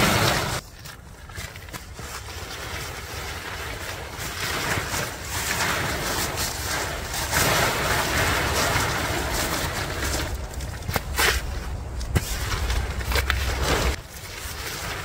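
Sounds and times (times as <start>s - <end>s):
fabric dragged across gravel: 0.0s - 15.0s
tent fabric rustling and crinkling: 0.0s - 15.0s.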